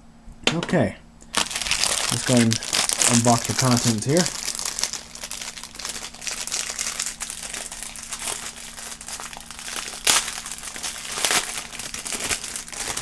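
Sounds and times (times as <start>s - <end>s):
loud packaging crackles: 1.3s - 13.0s
packaging crinkling and rustling: 1.3s - 13.0s.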